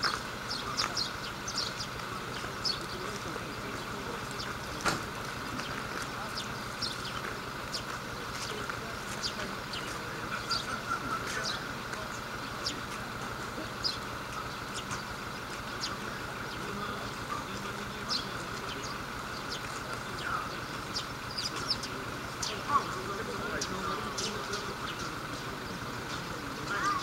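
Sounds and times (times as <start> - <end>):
steady outdoor hum: 0.0 - 27.0.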